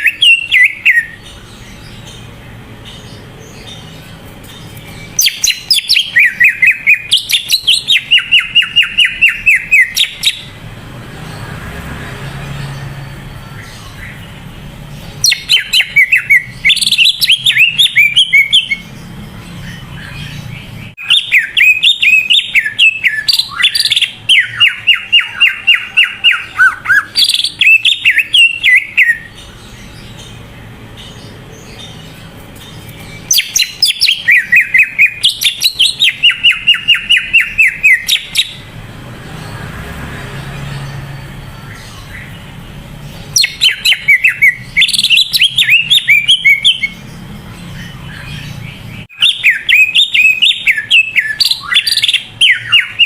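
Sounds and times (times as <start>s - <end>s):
bird singing chattering notes: 0.0s - 53.0s.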